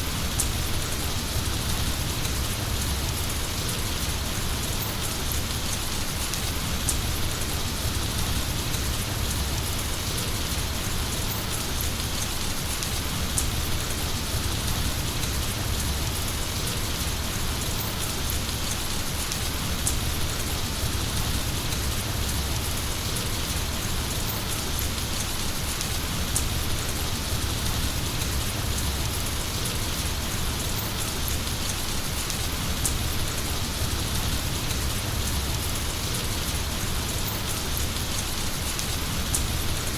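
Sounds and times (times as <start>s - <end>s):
heavy rain falling: 0.0s - 39.9s
rain drop ticks: 0.0s - 39.9s.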